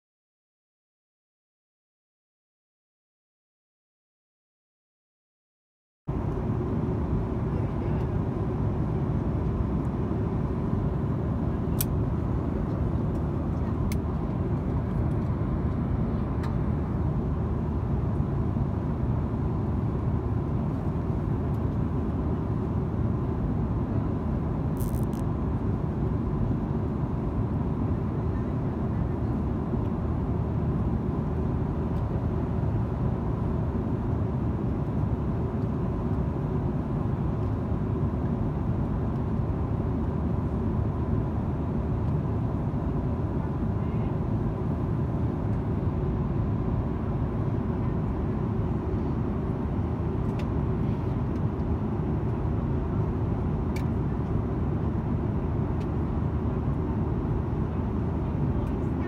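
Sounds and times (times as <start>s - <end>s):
airliner cabin rumble: 6.1s - 59.0s
faint steady hum: 6.1s - 59.0s.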